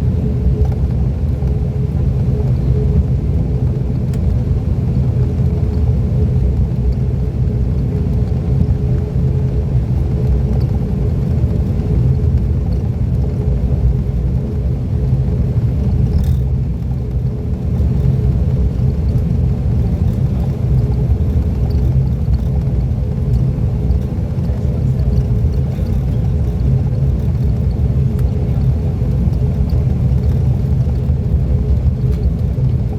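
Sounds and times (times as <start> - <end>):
turboprop engines droning in cabin: 0.0 - 32.9.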